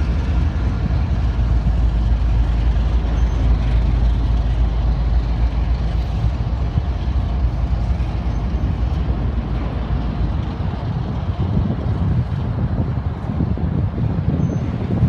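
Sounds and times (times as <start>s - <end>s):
freight train passing: 0.0s - 15.0s.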